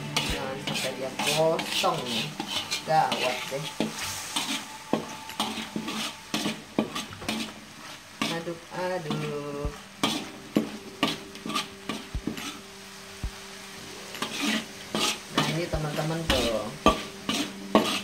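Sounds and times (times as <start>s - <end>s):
spatula scraping a wok: 0.0s - 12.7s, 13.9s - 18.0s
light sizzle: 0.0s - 18.0s.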